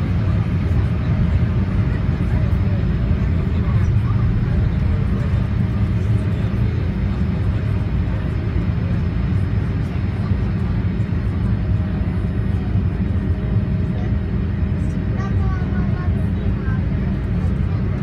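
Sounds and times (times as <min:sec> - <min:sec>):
aircraft engines and rushing air: 0:00.0 - 0:18.0.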